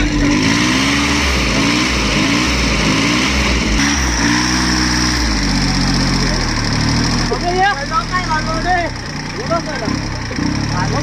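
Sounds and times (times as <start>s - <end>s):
tractor engine labouring: 0.0s - 11.0s.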